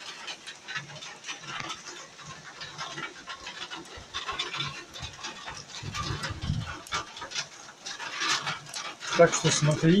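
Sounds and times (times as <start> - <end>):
heavy rain on trees: 0.0 - 10.0
raindrops tapping close by: 0.0 - 10.0.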